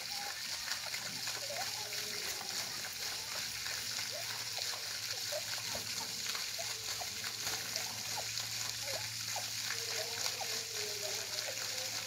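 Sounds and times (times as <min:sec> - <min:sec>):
running creek water: 0:00.0 - 0:12.0.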